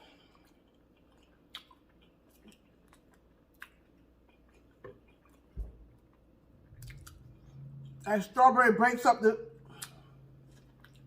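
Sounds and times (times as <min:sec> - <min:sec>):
person chewing: 0:00.0 - 0:08.1, 0:09.6 - 0:11.0.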